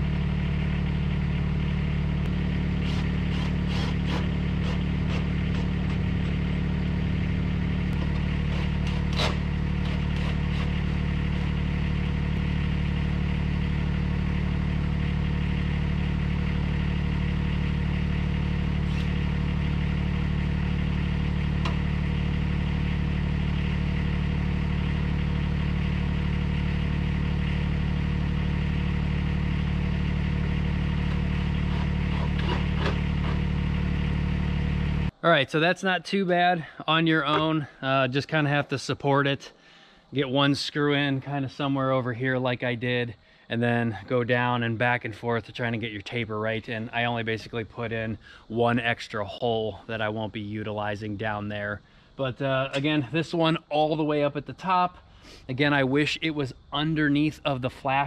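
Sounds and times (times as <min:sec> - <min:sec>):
engine running steadily: 0:00.0 - 0:35.2, 0:42.5 - 0:58.0.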